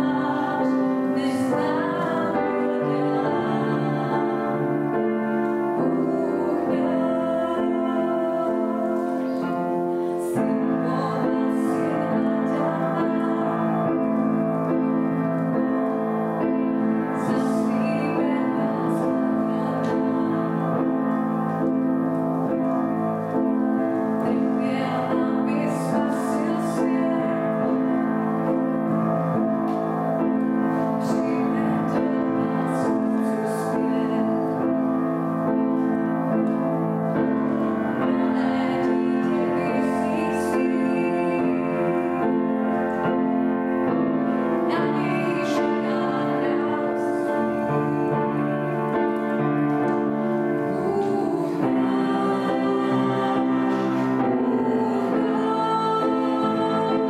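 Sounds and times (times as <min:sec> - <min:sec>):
slow keyboard music: 0:00.0 - 0:57.0.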